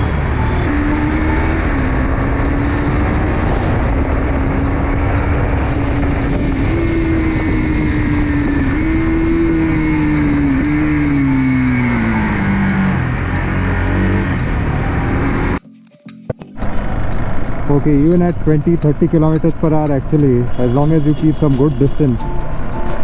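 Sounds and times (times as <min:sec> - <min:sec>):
motorcycle engine cruising: 0:00.0 - 0:15.6, 0:16.6 - 0:23.0
wind and road noise: 0:00.0 - 0:15.6, 0:16.6 - 0:23.0.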